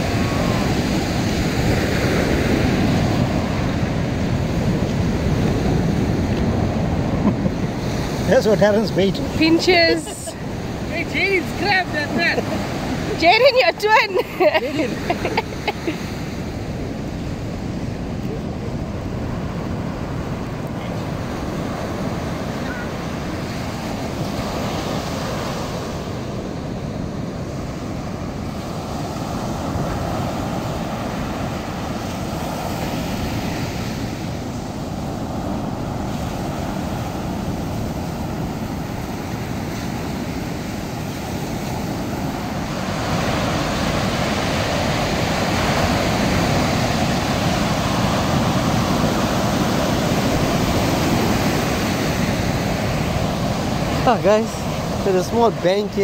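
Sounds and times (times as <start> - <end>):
ocean surf on sandy beach: 0.0 - 56.0
wind on microphone: 0.0 - 56.0.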